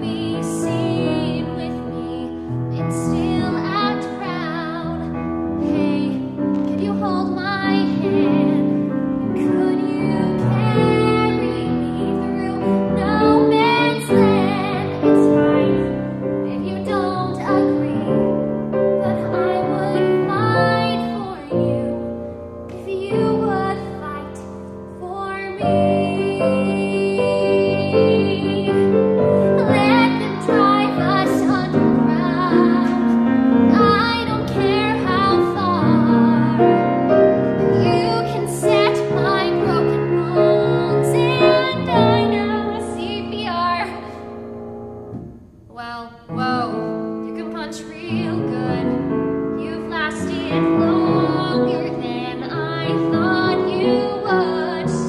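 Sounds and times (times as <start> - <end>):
woman singing a ballad: 0.0 - 44.3, 45.7 - 55.0
grand piano accompaniment: 0.0 - 55.0.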